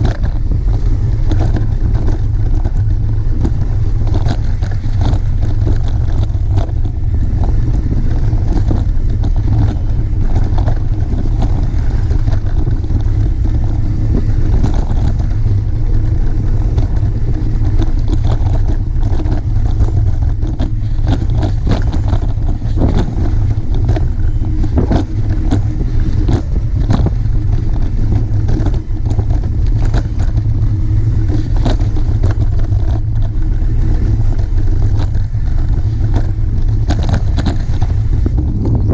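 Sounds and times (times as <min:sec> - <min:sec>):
bike rattles and knocks: 0:00.0 - 0:38.9
bike tyres rolling over dirt: 0:00.0 - 0:38.9
wind buffeting microphone: 0:00.0 - 0:38.9.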